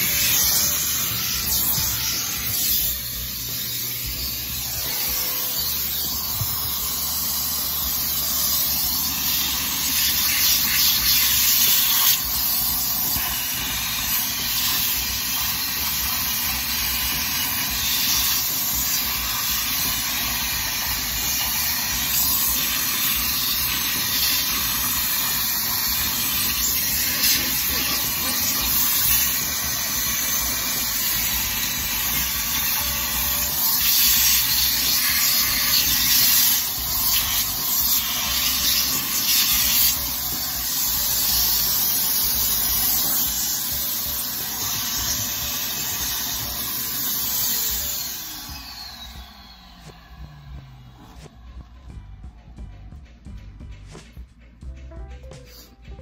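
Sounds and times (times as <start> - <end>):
shop vacuum sucking air: 0.0 - 51.4.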